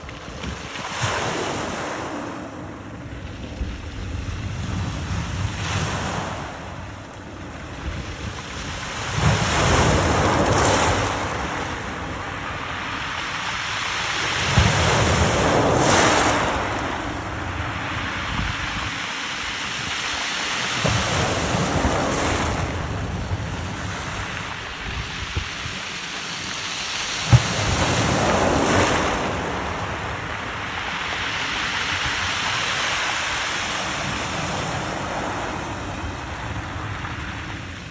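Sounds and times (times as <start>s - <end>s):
waves crashing on shore: 0.0s - 37.9s
wind buffeting microphone: 0.0s - 37.9s.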